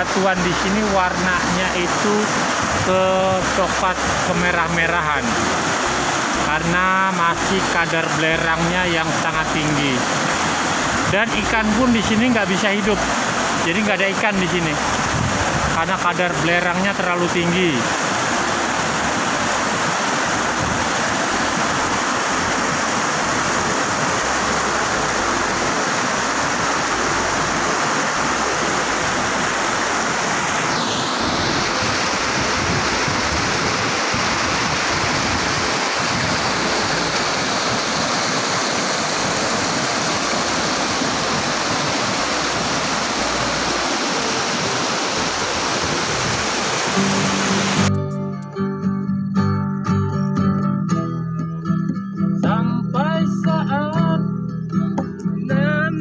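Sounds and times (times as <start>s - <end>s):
stream rushing over boulders: 0.0s - 47.9s.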